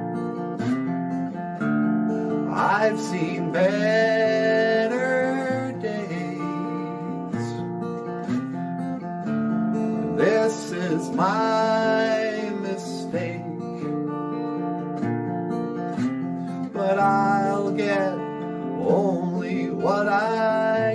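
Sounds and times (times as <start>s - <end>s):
strummed acoustic guitar: 0.0s - 20.9s.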